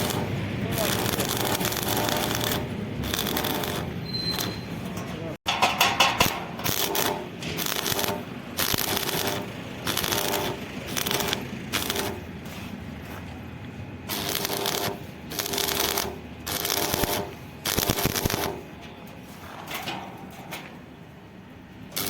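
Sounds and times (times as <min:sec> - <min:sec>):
arc welding crackling: 0:00.0 - 0:13.2, 0:14.0 - 0:20.4, 0:21.8 - 0:22.0.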